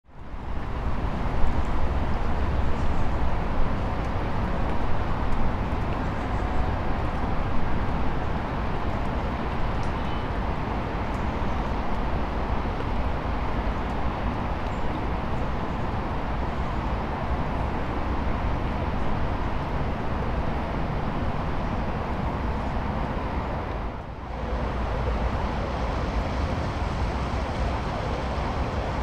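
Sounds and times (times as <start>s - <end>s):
road traffic rumble on bridge: 0.1s - 29.0s.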